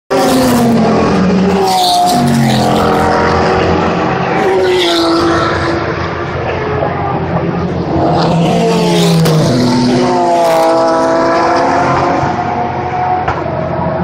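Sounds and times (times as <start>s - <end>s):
race cars passing at speed: 0.1s - 14.0s.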